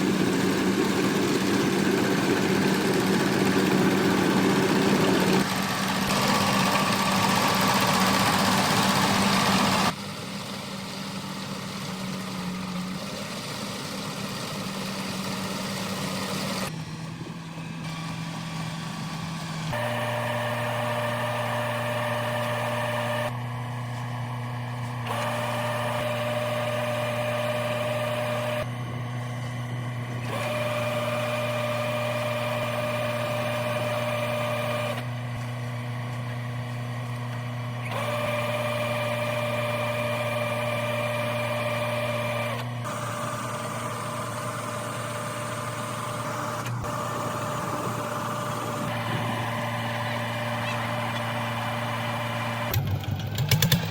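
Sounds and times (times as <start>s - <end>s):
combine harvester engine humming: 0.0s - 53.9s
high machinery whine: 0.0s - 53.9s.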